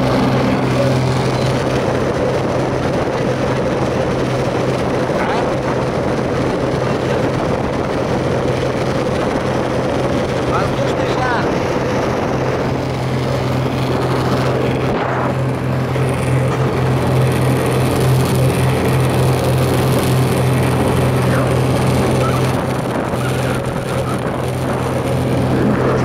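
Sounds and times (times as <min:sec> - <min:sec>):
boat engine drone: 0:00.0 - 0:26.0
rushing wind and water: 0:00.0 - 0:26.0.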